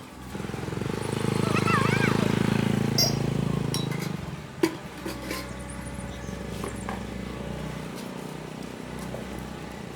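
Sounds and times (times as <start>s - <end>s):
engine running low: 0.0s - 9.9s.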